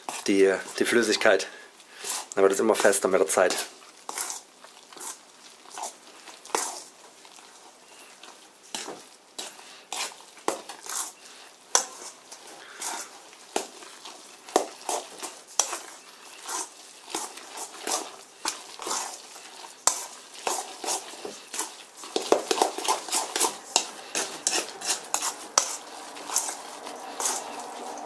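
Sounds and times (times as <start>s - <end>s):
utensil stirring dough in bowl: 0.0s - 28.0s.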